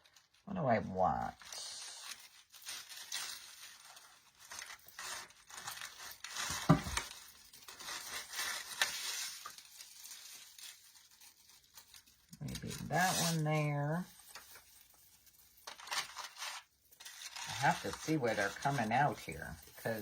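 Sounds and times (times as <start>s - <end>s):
artificial pine stems rustling: 0.0s - 20.0s.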